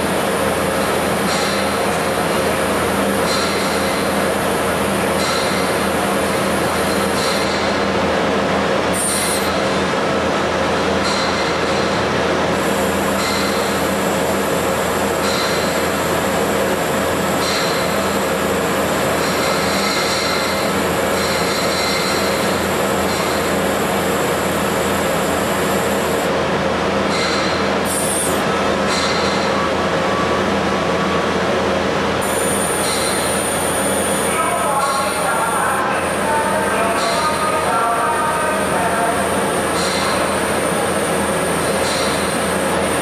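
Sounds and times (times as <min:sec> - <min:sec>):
tube cutting machine humming: 0:00.0 - 0:29.5, 0:32.0 - 0:43.0.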